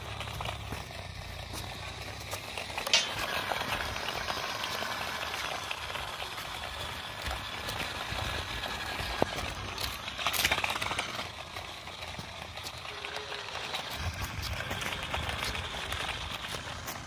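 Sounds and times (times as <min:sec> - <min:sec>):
toy car wheels rolling on grit: 0:00.0 - 0:17.0.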